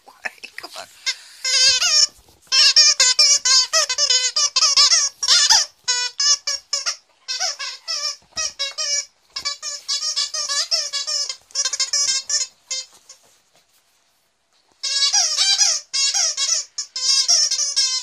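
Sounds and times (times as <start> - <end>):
dog toy squeaking: 1.0 - 13.2, 14.8 - 18.0.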